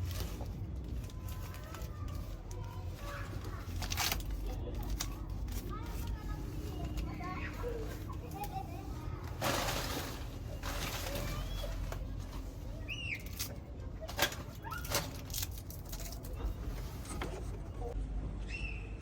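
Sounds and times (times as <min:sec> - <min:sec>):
packaging rustling: 0:00.0 - 0:17.6.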